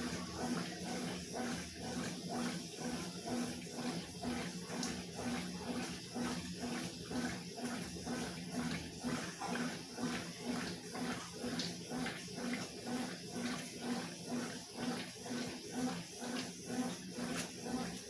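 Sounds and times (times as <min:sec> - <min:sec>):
washing machine motor hum: 0:00.0 - 0:18.0
washing machine water sloshing: 0:00.0 - 0:18.0.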